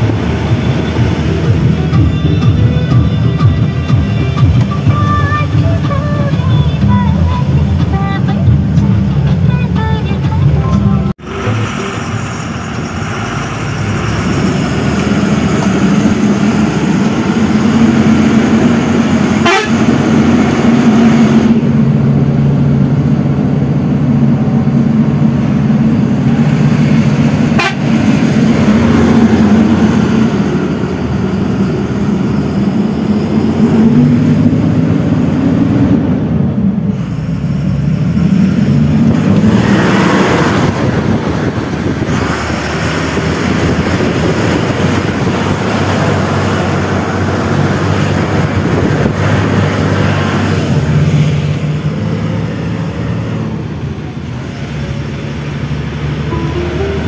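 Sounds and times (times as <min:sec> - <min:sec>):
truck engine droning: 0:00.0 - 0:57.0.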